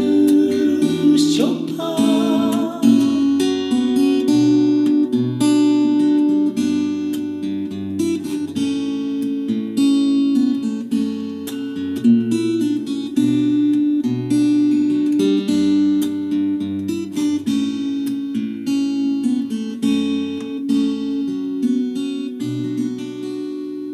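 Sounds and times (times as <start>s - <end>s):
acoustic guitar chords: 0.0s - 23.9s.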